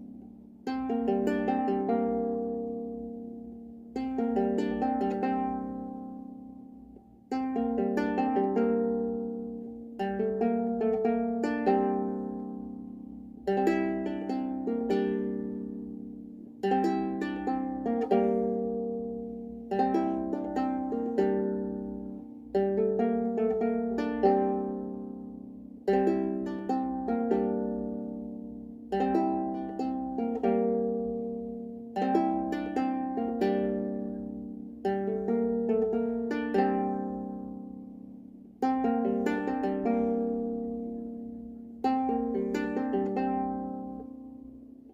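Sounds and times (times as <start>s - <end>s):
plucked lyre strings: 0.0s - 44.9s.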